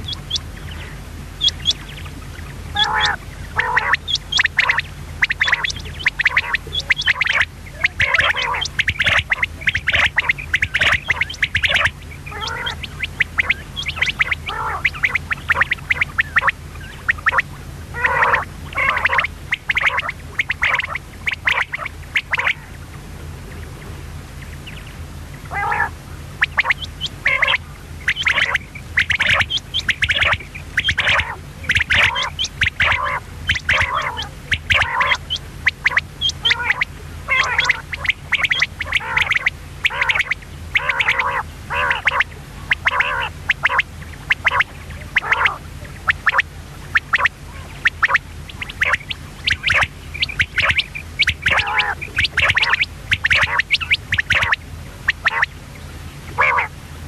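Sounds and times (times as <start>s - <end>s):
low steady hum: 0.0s - 57.0s
quail calling in short notes: 2.7s - 22.8s, 25.5s - 45.6s, 47.0s - 55.5s.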